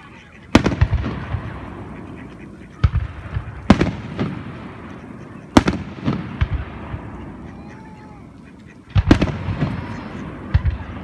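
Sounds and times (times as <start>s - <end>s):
fireworks bursting with bangs: 0.5s - 11.0s.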